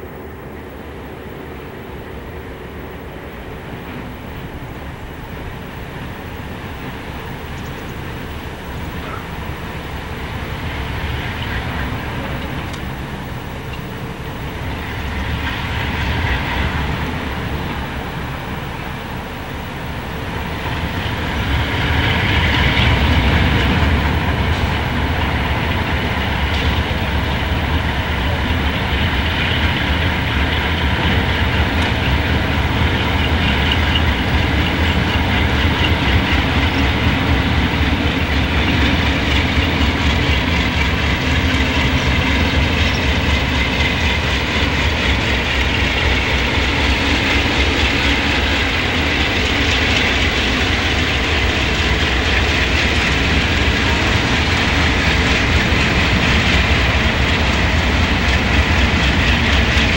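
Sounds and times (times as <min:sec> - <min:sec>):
locomotive engine rumble: 0:00.0 - 0:59.9
wheels clattering on rails: 0:03.2 - 0:59.9.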